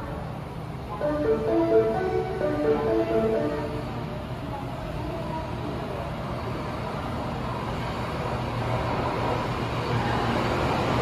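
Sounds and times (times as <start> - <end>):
subway train rumbling in tunnel: 0.0 - 11.0.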